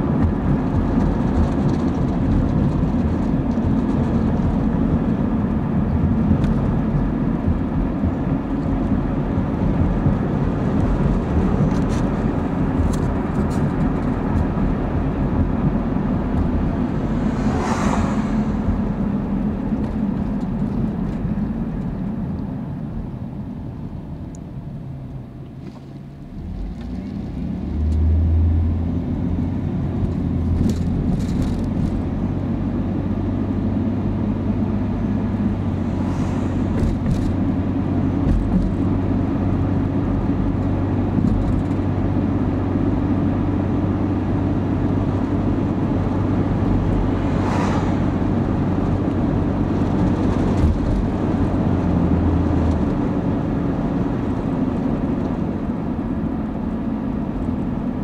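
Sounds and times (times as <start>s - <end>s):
low engine drone: 0.0s - 58.0s
road and engine noise in car: 0.0s - 58.0s.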